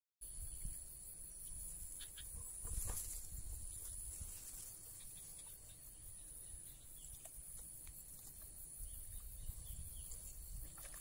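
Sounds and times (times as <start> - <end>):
insects droning: 0.2 - 11.0.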